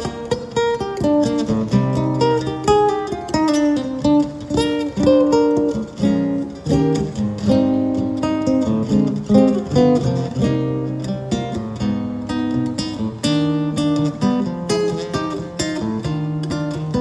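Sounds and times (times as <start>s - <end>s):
acoustic guitar jazz solo: 0.0s - 17.0s.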